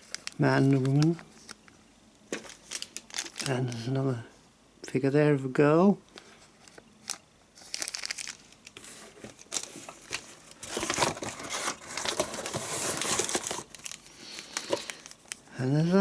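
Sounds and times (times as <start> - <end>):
packaging crinkling: 0.0 - 4.0, 6.2 - 15.5.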